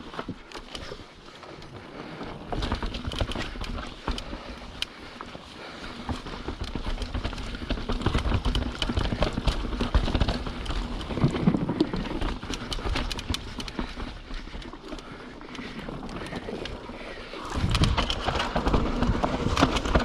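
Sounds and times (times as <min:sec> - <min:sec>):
bike tyres rumbling over rocks: 0:00.0 - 0:20.0.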